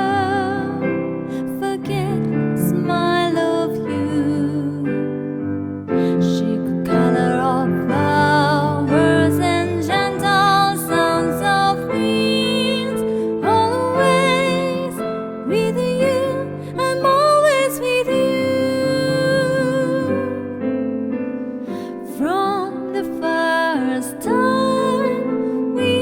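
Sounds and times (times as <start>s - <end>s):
woman singing with vibrato: 0.0s - 5.1s, 6.2s - 20.4s, 22.1s - 26.0s
piano chords: 0.0s - 26.0s.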